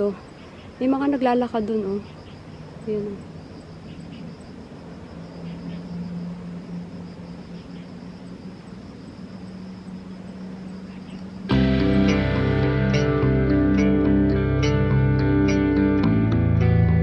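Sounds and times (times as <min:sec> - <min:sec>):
insects buzzing: 0:00.0 - 0:17.0
low hum: 0:02.5 - 0:17.0.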